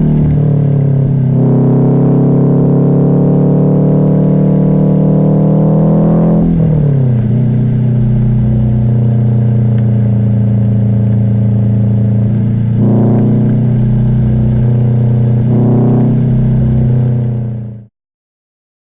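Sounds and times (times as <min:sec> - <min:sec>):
car engine accelerating: 0:00.0 - 0:17.9.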